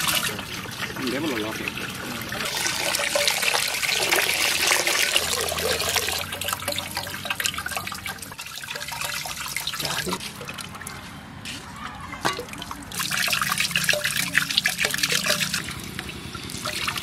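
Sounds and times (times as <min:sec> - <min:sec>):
liquid trickling into metal pot: 0:00.0 - 0:10.9, 0:12.2 - 0:17.0.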